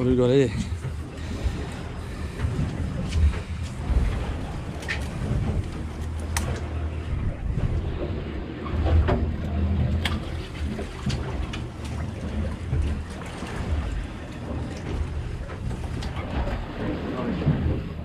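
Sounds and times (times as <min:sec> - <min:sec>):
low rumble: 0:00.0 - 0:18.0
water noise: 0:00.0 - 0:18.0
wind: 0:00.0 - 0:18.0.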